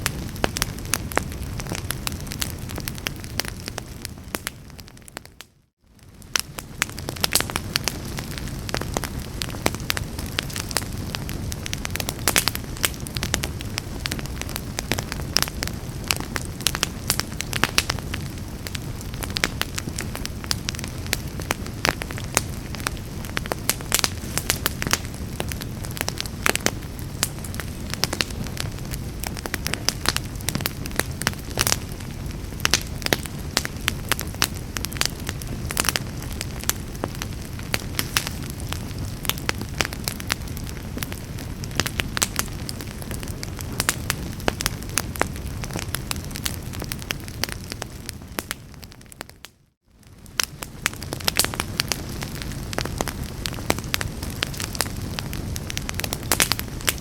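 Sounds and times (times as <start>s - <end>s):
fireplace fire crackling: 0.0s - 57.0s.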